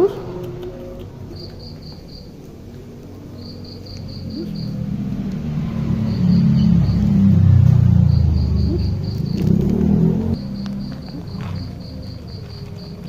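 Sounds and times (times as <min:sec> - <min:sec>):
low engine hum: 0:00.0 - 0:13.0
cricket chirping: 0:00.1 - 0:13.0.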